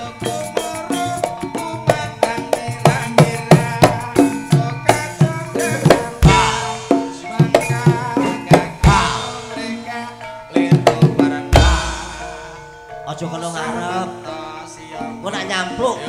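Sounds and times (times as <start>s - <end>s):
gamelan music: 0.0s - 16.0s
ringing metallophone notes: 0.0s - 16.0s.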